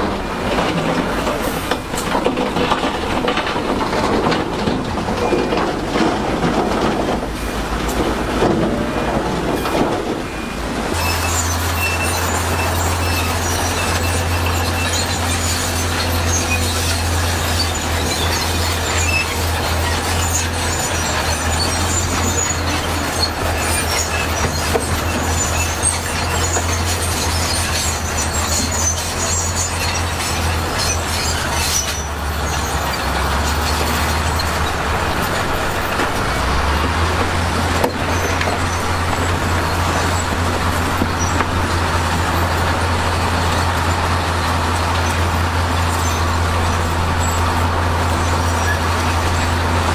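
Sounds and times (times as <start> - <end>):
heavy diesel machinery droning: 0.0 - 49.9.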